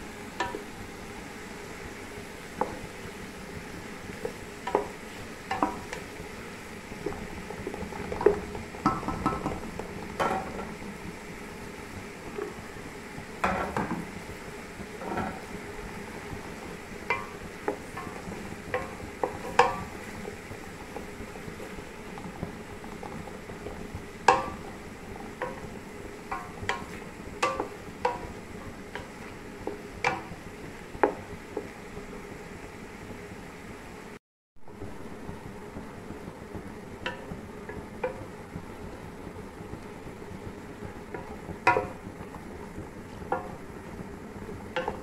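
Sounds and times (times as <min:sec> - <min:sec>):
vegetables sizzling in oil: 0:00.0 - 0:45.0.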